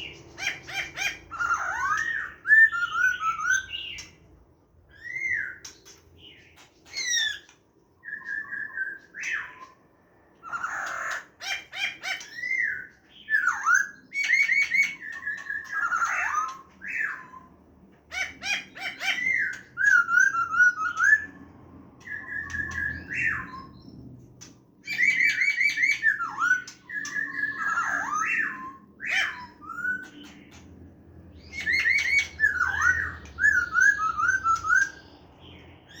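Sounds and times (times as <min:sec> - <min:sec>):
bird singing whistled notes: 0:00.0 - 0:04.2, 0:04.9 - 0:09.8, 0:12.1 - 0:17.5, 0:18.5 - 0:24.0, 0:24.8 - 0:30.6, 0:31.3 - 0:36.0.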